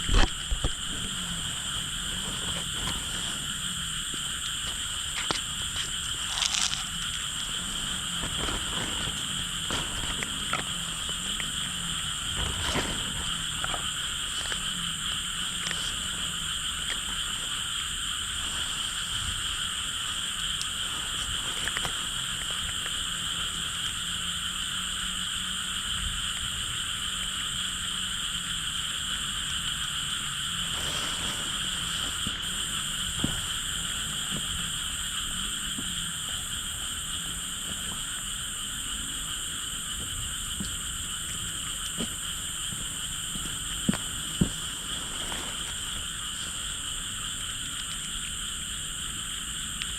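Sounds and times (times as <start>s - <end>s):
frogs calling: 0.0s - 49.9s.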